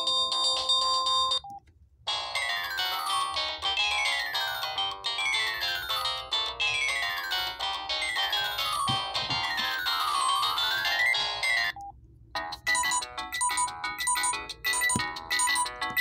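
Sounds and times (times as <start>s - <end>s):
phone ringtone melody: 0.0s - 16.0s.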